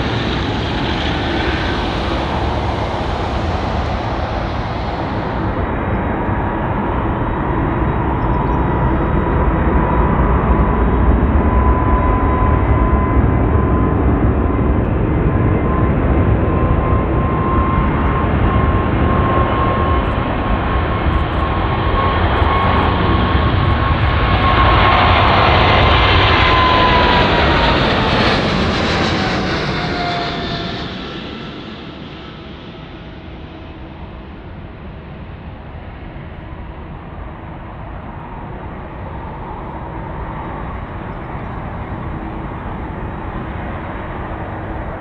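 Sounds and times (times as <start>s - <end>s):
jet engine roar with whine: 0.0s - 45.0s.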